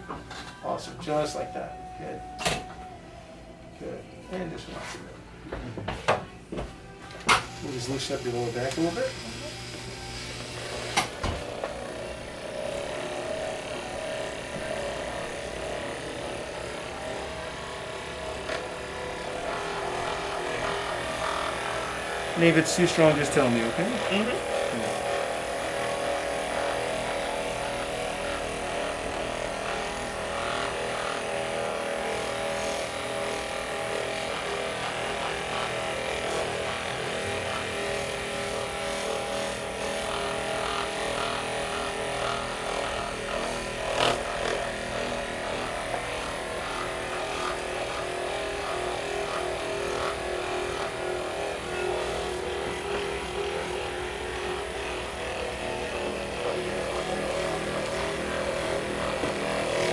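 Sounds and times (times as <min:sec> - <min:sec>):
electric massager motor buzz: 0:00.0 - 0:59.9.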